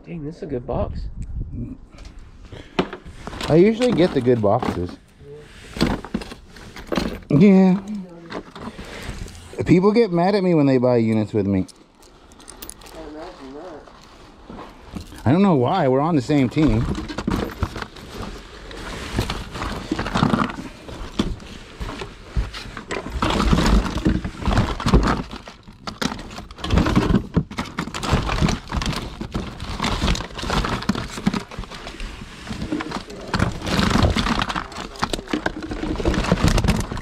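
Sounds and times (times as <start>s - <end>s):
items clattering and knocking: 2.0s - 10.3s, 10.9s - 37.0s
hands rummaging through a box: 2.6s - 10.3s, 11.1s - 37.0s.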